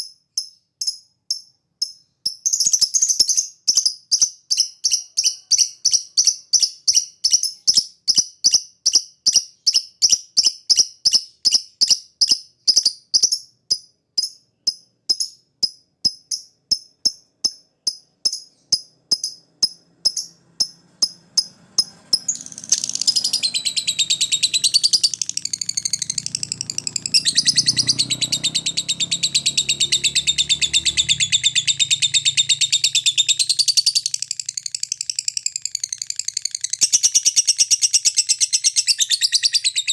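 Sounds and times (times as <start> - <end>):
bird sharp high chips: 1.9 - 39.5
bird rapid chatter: 2.5 - 13.4, 16.1 - 39.9.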